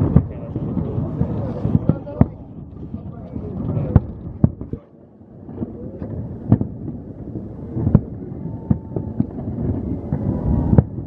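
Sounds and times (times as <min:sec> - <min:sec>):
fireworks bursting: 0:00.0 - 0:11.0
low rolling rumble: 0:00.0 - 0:11.0.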